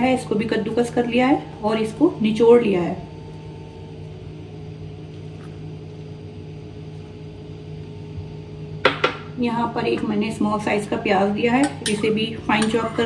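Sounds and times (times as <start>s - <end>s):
motor or fan humming: 0.0s - 13.0s.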